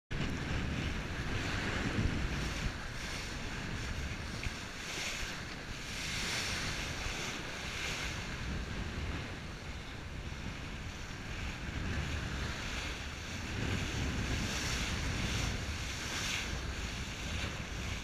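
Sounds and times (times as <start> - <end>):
low wind rumble: 0.1 - 18.0
sea water rushing along hull: 0.1 - 18.0
wind buffeting microphone: 0.1 - 18.0.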